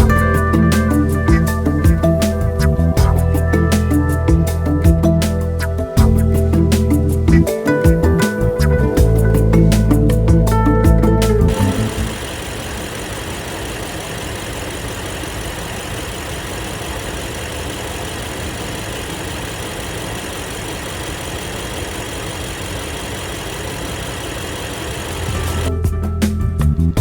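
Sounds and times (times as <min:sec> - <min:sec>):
car engine idling: 0:00.0 - 0:25.7.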